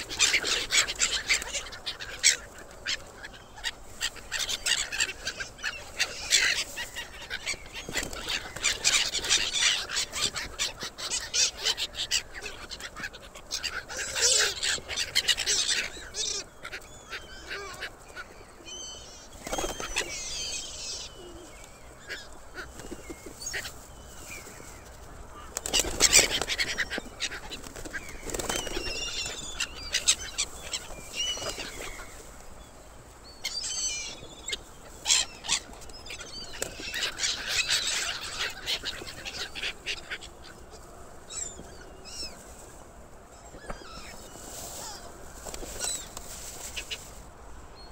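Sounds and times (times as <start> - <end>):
wings flapping and scuffling: 0.0 - 16.8, 19.3 - 20.6, 21.6 - 32.6, 34.2 - 41.0, 43.5 - 47.3
gulls calling: 0.0 - 32.6, 33.3 - 47.2.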